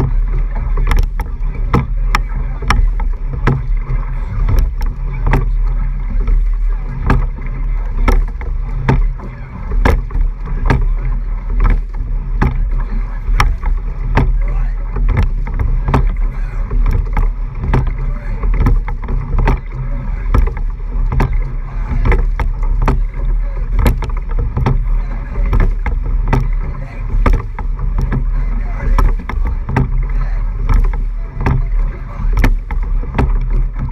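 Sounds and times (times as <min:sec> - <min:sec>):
low wind rumble: 0:00.0 - 0:33.9
oars clacking in oarlocks: 0:00.0 - 0:33.9
water rushing along hull: 0:00.0 - 0:33.9.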